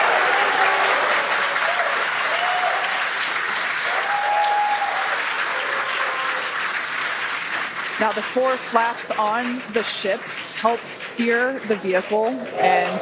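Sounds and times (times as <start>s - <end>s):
crowd applauding and cheering: 0.0s - 13.0s.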